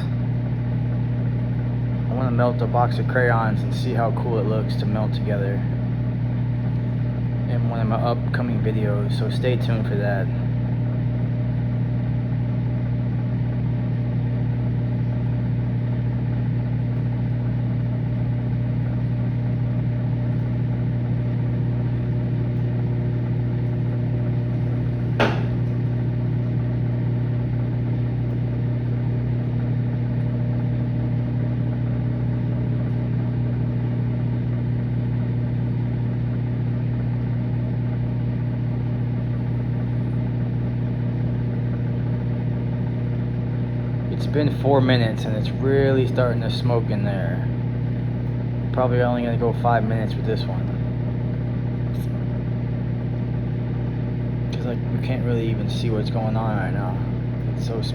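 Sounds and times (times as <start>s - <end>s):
microwave oven humming: 0.0s - 57.9s.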